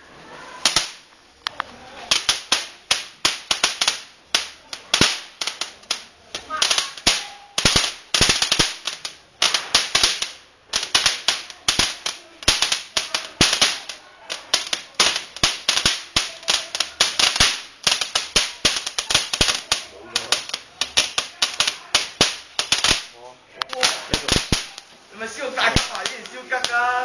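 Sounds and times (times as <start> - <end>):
firework crackling and popping: 0.0 - 27.0.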